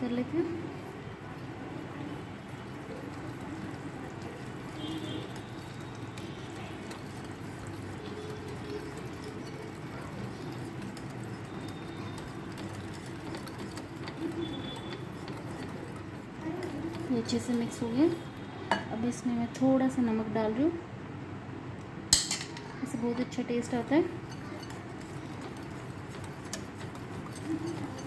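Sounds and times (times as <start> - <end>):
spoon stirring thick batter: 0.0 - 20.6, 22.8 - 28.0.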